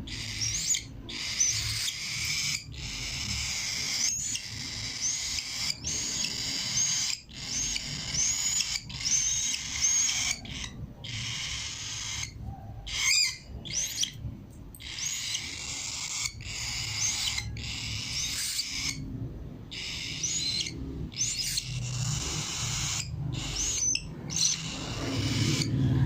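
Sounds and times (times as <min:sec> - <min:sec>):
cockatiel chirps: 0:00.0 - 0:14.2, 0:14.8 - 0:19.1, 0:19.7 - 0:25.7
cockatiel harsh hissing calls: 0:00.1 - 0:14.2, 0:14.8 - 0:19.0, 0:19.7 - 0:25.7.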